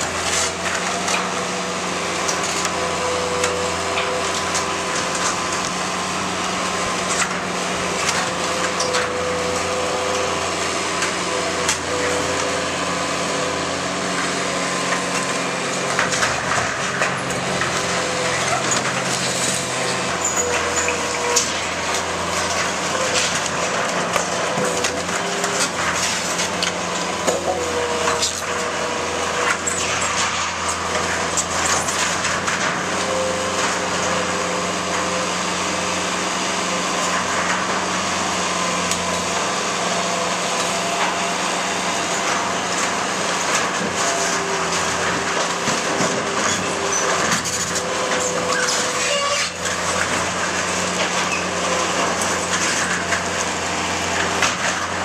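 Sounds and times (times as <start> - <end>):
diesel engine under load: 0.0 - 55.0
wood splintering: 0.0 - 55.0.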